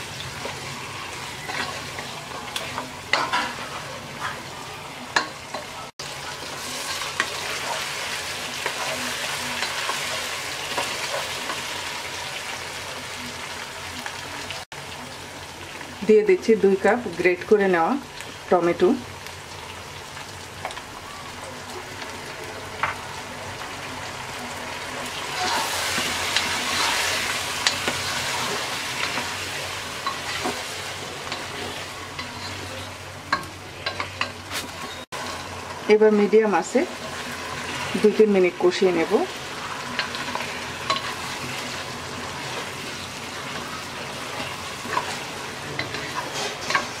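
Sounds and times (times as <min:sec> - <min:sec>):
chicken sizzling in oil: 0:00.0 - 0:47.0.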